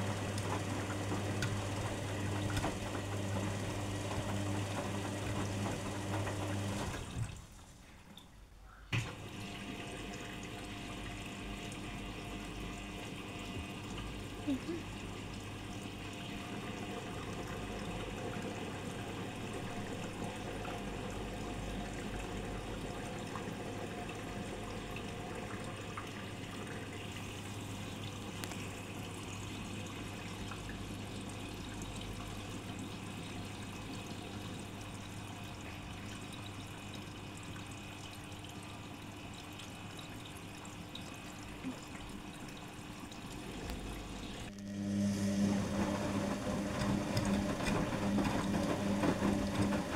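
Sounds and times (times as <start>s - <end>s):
water running into washing machine: 0.0s - 8.2s, 9.0s - 49.9s.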